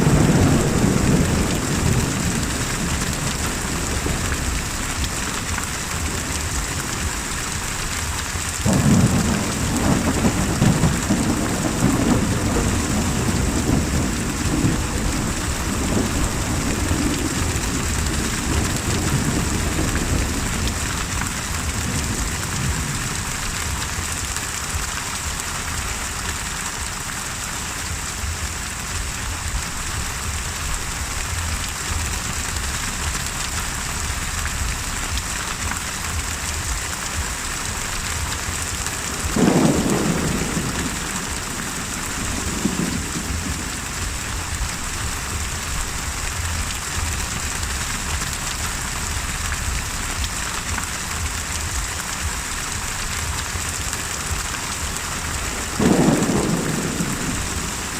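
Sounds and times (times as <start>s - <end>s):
thunderclap rumbling: 0.0s - 26.7s, 27.8s - 57.9s
heavy rain: 0.0s - 57.9s.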